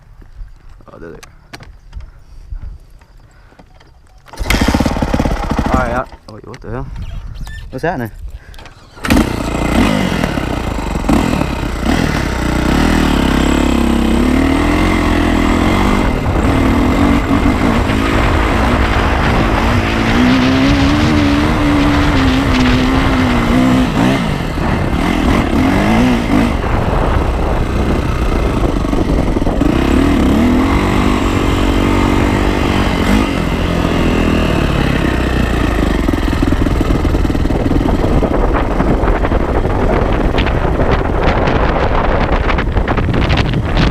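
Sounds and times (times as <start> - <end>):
motorcycle engine revving: 4.3 - 6.2, 8.7 - 43.9
wind on microphone: 4.4 - 43.9.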